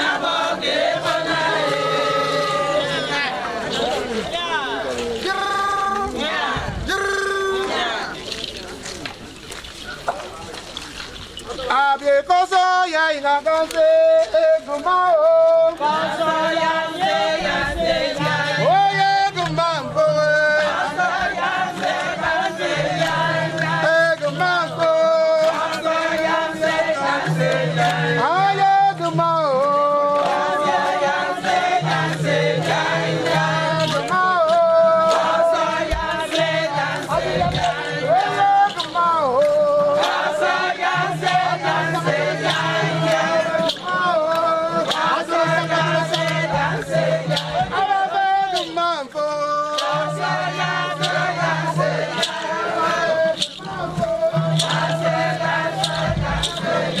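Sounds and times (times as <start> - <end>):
several voices singing together: 0.0 - 8.4, 11.7 - 57.0.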